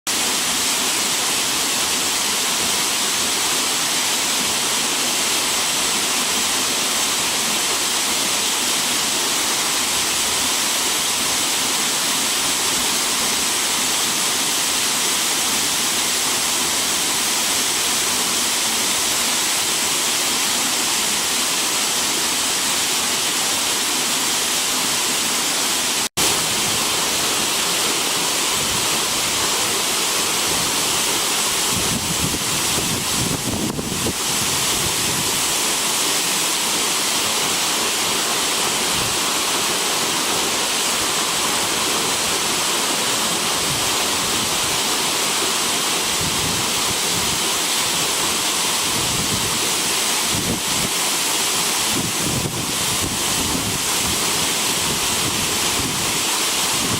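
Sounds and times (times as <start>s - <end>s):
waterfall rushing and splashing: 0.1s - 56.9s.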